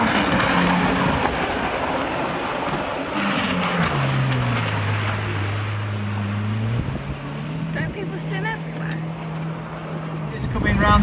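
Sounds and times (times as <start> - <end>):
jet ski engine running high: 0.0 - 11.0.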